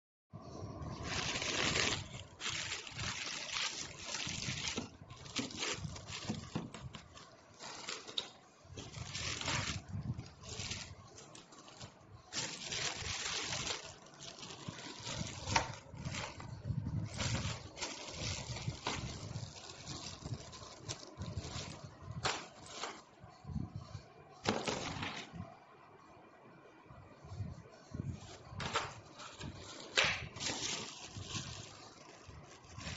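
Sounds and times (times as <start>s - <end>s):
bubble wrap and plastic crinkling: 0.7s - 25.5s, 27.3s - 32.9s.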